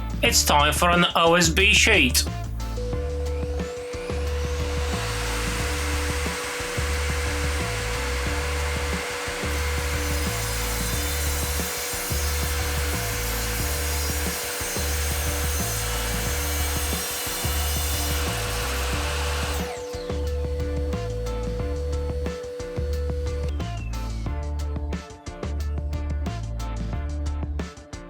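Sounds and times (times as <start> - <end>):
mitre saw cutting board: 0.0 - 23.9
background music with steady beat: 0.0 - 28.0.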